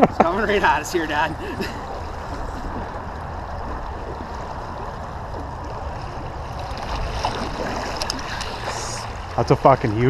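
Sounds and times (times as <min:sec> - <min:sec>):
low rumble: 0:00.0 - 0:10.0
river water rushing: 0:00.0 - 0:10.0.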